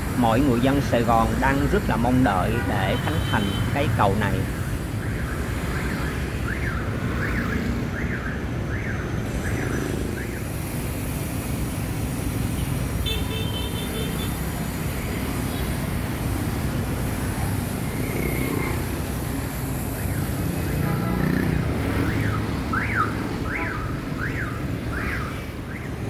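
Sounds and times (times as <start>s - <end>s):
motorbikes and cars passing: 0.0s - 26.0s.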